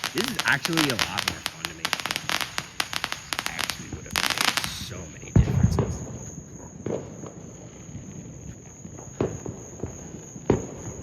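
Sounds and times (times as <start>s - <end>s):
distant firework booms: 0.0s - 11.0s
insects droning: 0.0s - 11.0s.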